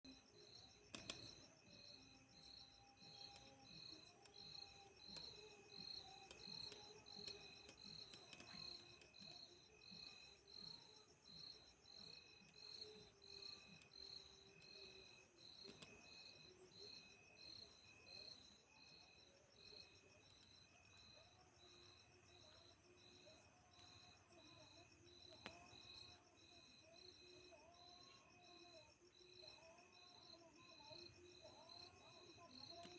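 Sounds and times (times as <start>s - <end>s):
crickets chirping: 0.1s - 32.9s.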